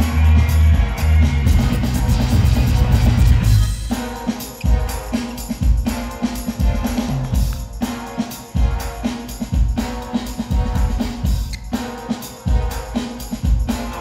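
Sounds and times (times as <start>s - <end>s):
drum-heavy dance music: 0.0s - 14.0s.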